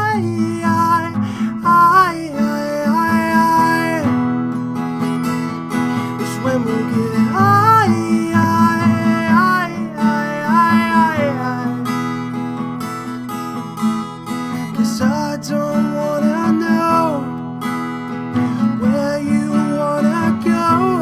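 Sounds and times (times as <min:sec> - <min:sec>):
sliding wordless melody: 0:00.0 - 0:21.0
strummed acoustic guitar: 0:00.0 - 0:21.0.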